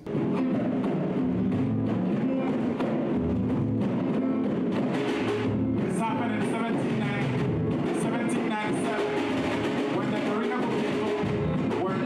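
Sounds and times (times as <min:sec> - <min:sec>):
acoustic guitar strumming: 0:00.0 - 0:12.0
congas rhythm: 0:00.0 - 0:12.0.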